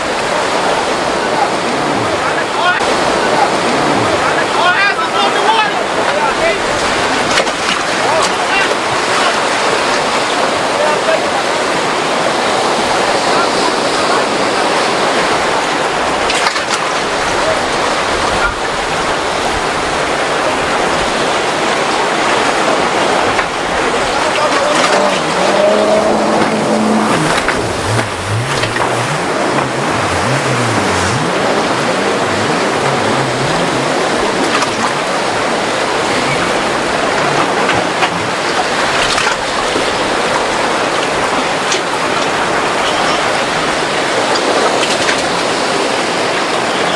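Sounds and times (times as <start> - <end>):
rough water rushing: 0.0 - 46.9.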